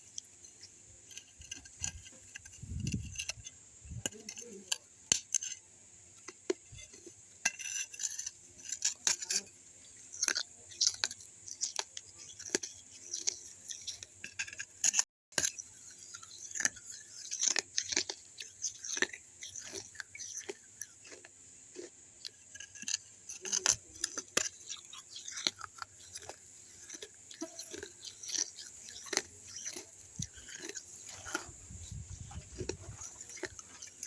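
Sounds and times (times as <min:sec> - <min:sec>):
crunching clay cup pieces: 0:00.0 - 0:05.6, 0:06.2 - 0:34.0.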